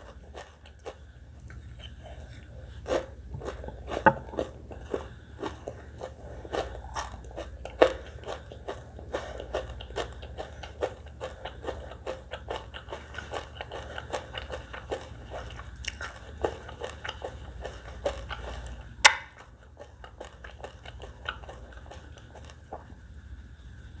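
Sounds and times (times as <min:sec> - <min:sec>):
close chewing and biting: 0:00.0 - 0:23.0.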